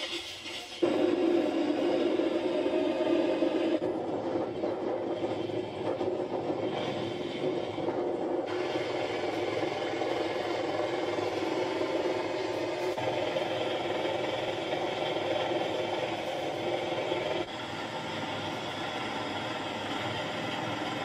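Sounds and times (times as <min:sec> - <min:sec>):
steady mechanical drone: 0:00.0 - 0:21.0.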